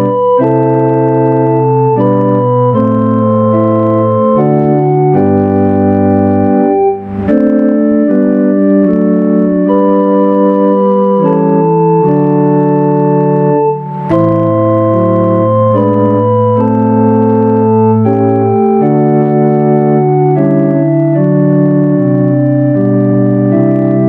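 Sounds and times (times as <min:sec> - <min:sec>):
organ playing held chords: 0:00.0 - 0:24.0.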